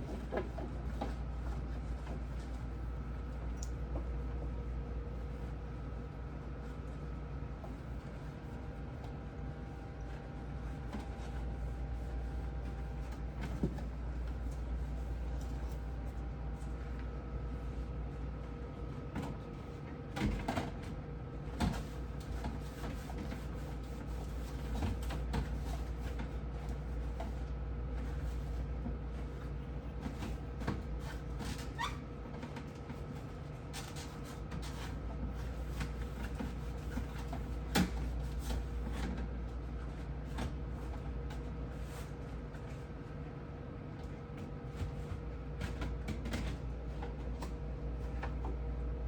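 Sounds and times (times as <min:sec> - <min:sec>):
items clattering in a refrigerator: 0:00.0 - 0:49.0
steady low hum: 0:00.0 - 0:49.0.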